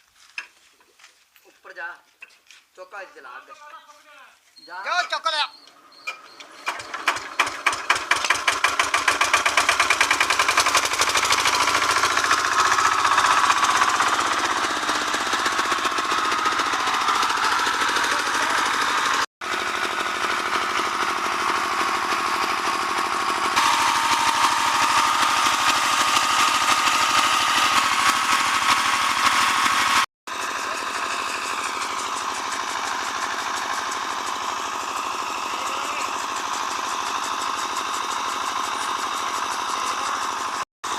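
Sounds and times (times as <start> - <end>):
generator engine starting and running: 4.7 - 40.9.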